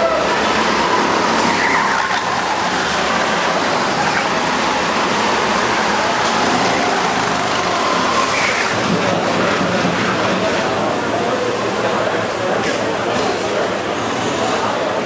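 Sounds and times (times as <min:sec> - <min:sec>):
kart passing by: 0:00.0 - 0:12.5
go-kart engines running: 0:00.0 - 0:15.0.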